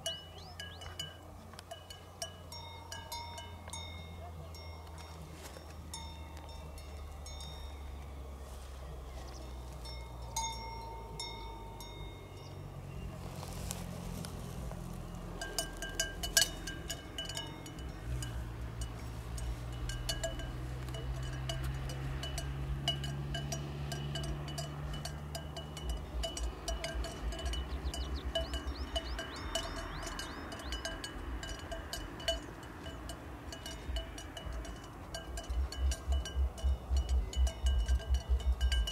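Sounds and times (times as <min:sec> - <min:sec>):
cowbells clanking: 0:00.0 - 0:08.3, 0:09.4 - 0:38.9.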